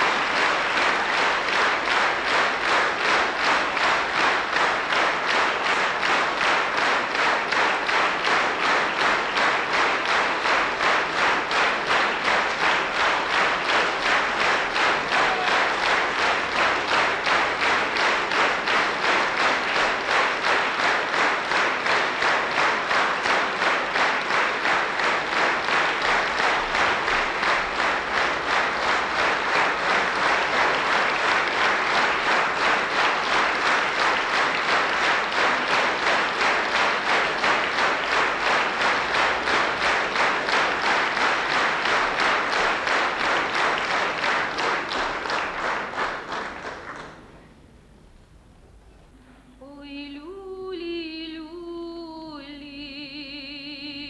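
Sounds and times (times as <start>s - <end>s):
audience clapping in unison: 0.0s - 48.5s, 50.5s - 54.0s.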